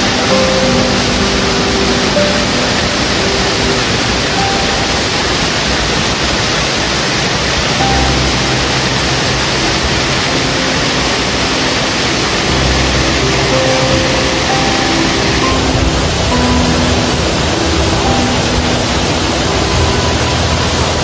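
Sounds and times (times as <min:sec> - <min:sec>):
soft background music: 0:00.0 - 0:21.0
waterfall rushing over rocks: 0:00.0 - 0:21.0.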